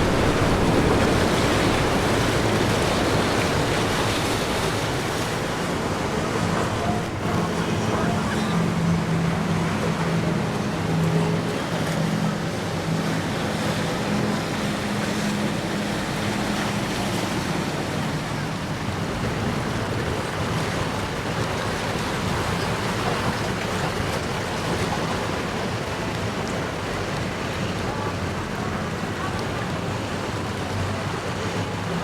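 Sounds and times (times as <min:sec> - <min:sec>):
boat engine droning: 0:00.0 - 0:32.0
surf rushing: 0:00.0 - 0:32.0
wind: 0:00.0 - 0:32.0.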